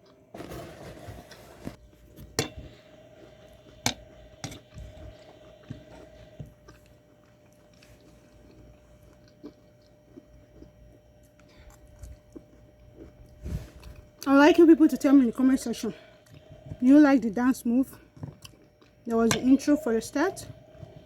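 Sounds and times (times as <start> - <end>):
chewing food: 2.9 - 21.0.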